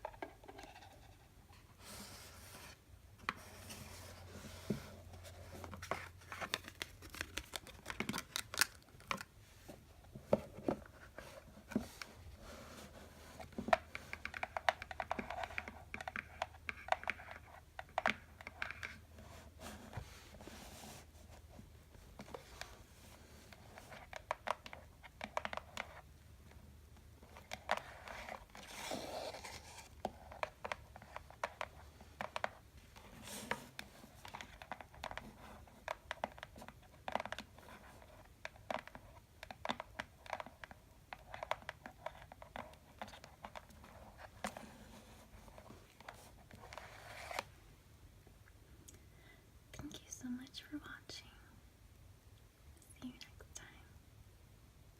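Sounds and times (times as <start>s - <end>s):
scratching and rubbing boxes: 0.0s - 8.4s, 9.7s - 17.6s, 18.4s - 26.1s, 27.2s - 47.5s.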